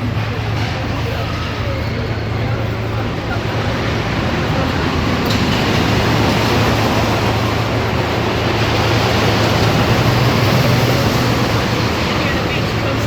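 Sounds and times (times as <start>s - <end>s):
ride train rushing noise: 0.0s - 13.0s.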